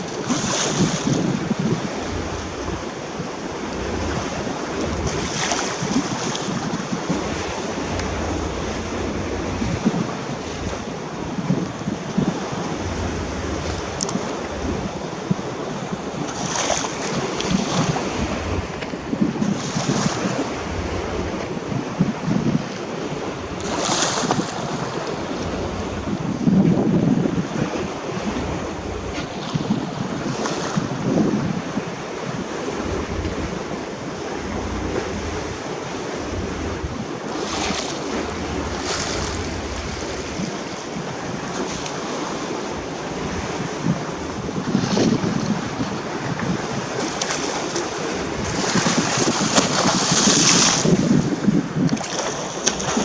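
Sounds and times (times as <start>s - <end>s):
water splashing along boat hull: 0.0s - 53.0s
wind buffeting microphone: 0.0s - 53.0s.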